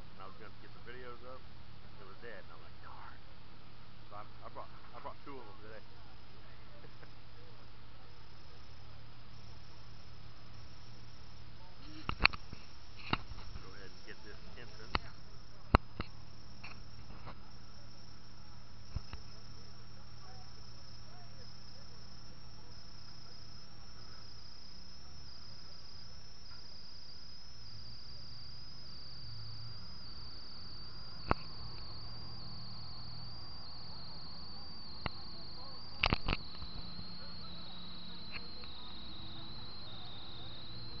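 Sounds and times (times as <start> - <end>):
high whine falling in pitch: 0.0 - 41.0.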